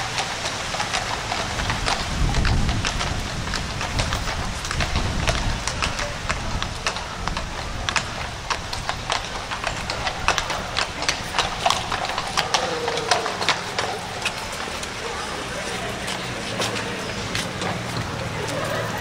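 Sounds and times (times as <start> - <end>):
horse hooves clip-clopping: 0.0 - 19.0.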